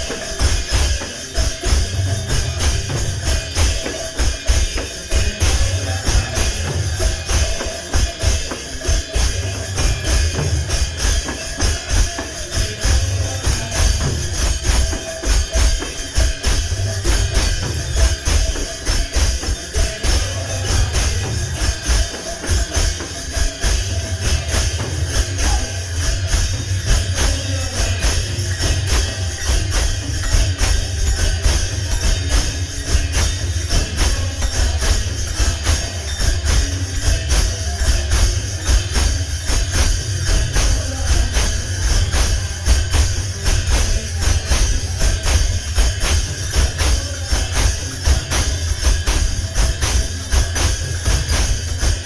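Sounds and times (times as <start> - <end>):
drum beats: 0.0 - 52.0
jingling metal percussion: 0.0 - 52.0.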